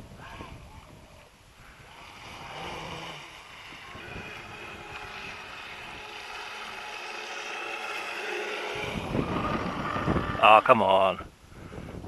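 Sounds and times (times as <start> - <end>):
model boat motor whine: 0.0 - 11.3
water noise: 0.0 - 11.3.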